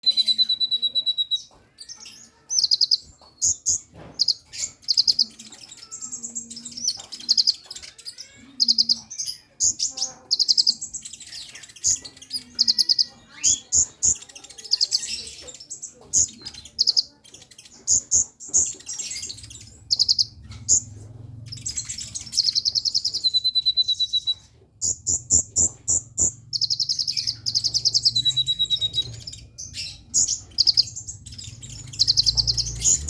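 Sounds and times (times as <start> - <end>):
bird high-pitched trills: 0.0 - 33.0.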